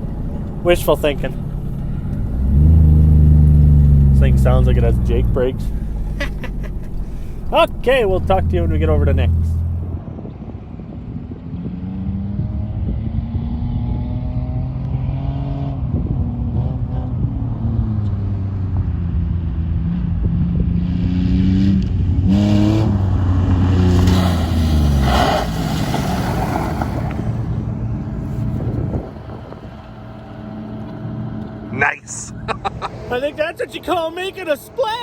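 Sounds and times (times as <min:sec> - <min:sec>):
pickup engine accelerating: 0:00.0 - 0:33.6.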